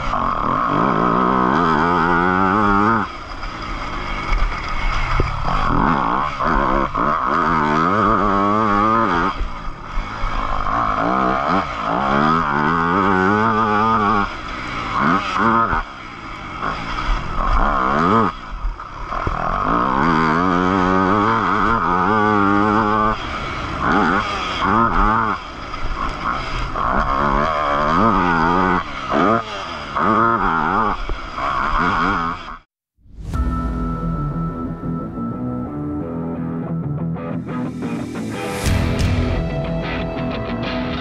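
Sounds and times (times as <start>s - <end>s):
motocross engine revving: 0.0s - 41.0s.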